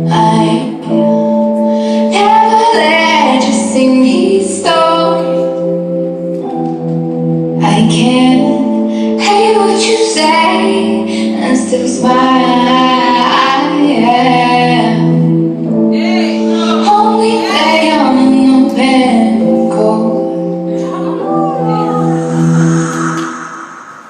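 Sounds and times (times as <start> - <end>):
woman singing slow melody: 0.0 - 5.7, 7.6 - 23.5
held chords: 0.0 - 24.0.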